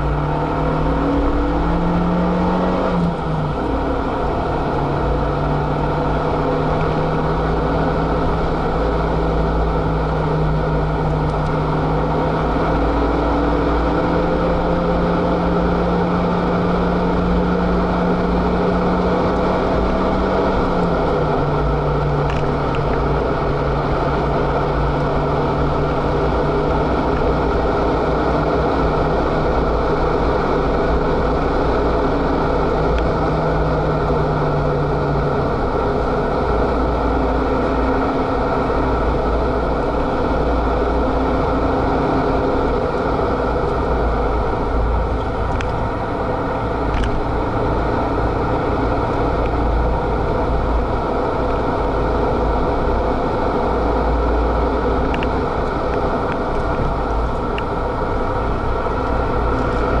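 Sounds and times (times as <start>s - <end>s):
car engine at speed: 0.0s - 60.0s.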